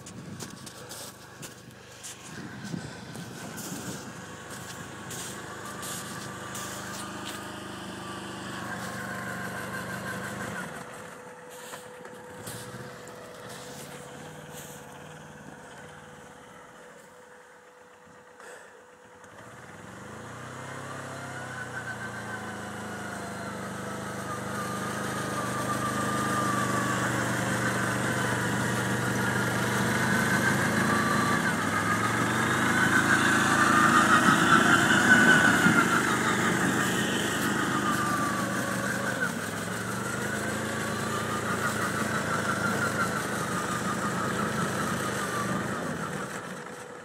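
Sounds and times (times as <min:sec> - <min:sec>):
diesel quad engine running: 0:00.0 - 0:47.0.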